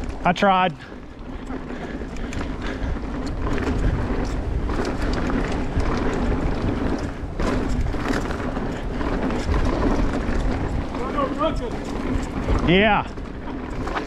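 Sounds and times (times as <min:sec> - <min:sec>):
bike knocking and rattling: 0:00.0 - 0:14.0
wind buffeting microphone: 0:00.0 - 0:14.0.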